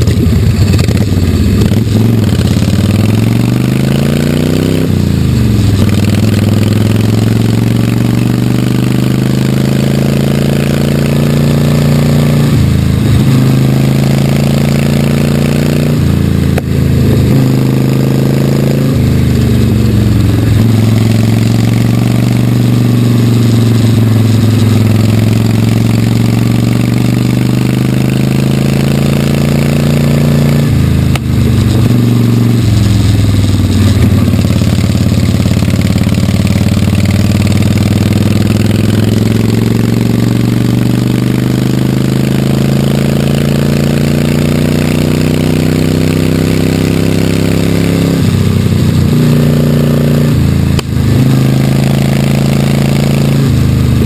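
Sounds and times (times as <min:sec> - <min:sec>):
motorcycle engine running under load: 0:00.0 - 0:54.0.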